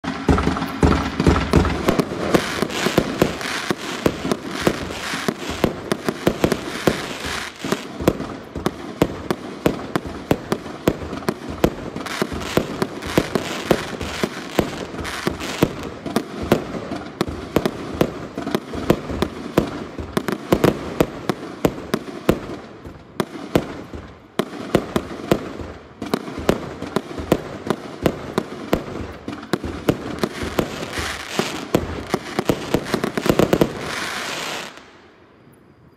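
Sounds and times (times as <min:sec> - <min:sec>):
fireworks fizzing: 0:00.0 - 0:35.0
fireworks sharp reports: 0:00.0 - 0:35.1.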